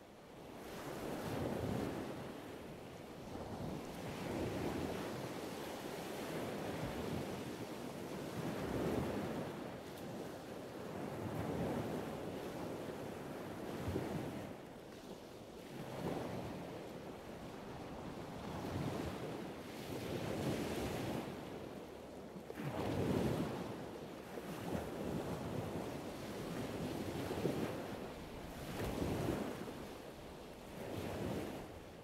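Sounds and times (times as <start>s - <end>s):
waves breaking on beach: 3.3s - 32.0s.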